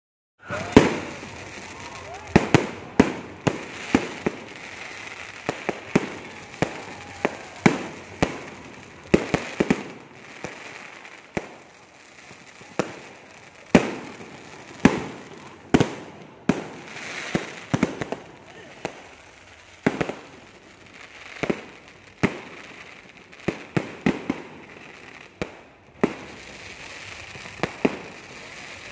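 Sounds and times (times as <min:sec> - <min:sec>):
fireworks bangs: 0:00.4 - 0:28.9.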